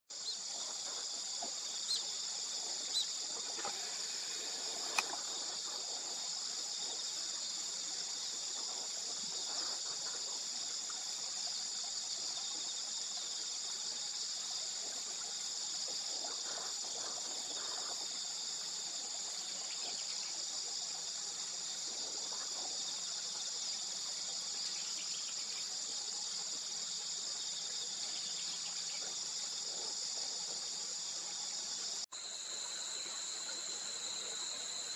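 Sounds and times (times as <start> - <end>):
insects chorus: 0.1 - 34.9.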